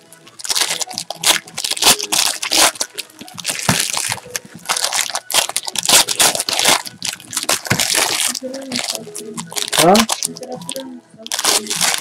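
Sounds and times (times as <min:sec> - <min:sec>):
foil wrapper tearing and crinkling: 0:00.0 - 0:12.0.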